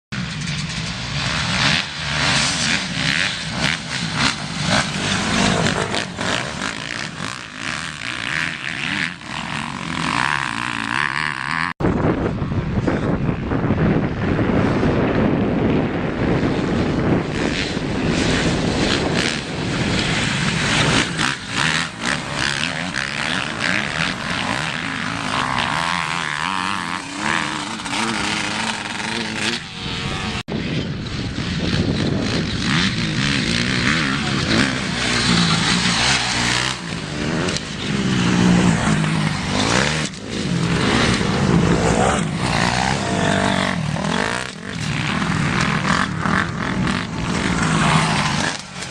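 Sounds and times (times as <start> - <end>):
motocross bike engines revving: 0.2 - 12.2, 12.9 - 48.9.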